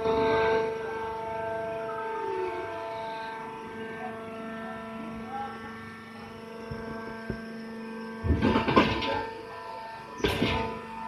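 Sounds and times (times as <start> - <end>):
electric motor and hydraulic pump humming: 0.0 - 11.0.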